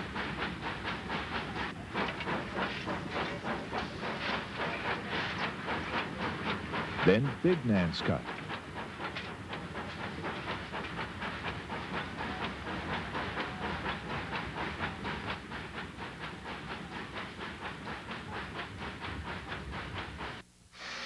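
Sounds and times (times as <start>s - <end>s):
steam hiss: 0.0s - 21.0s
steam locomotive chuffing: 0.0s - 21.0s.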